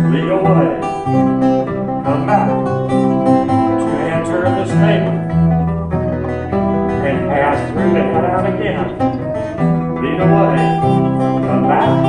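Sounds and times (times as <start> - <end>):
recorder melody: 0.0 - 12.0.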